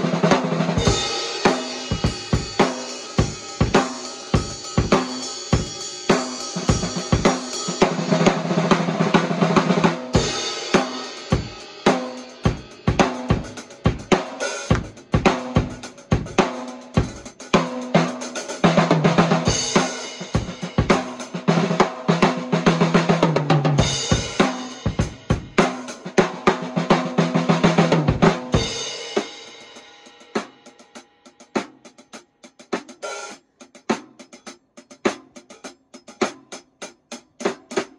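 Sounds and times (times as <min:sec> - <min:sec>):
snare drum rim shots and rolls: 0:00.0 - 0:37.9.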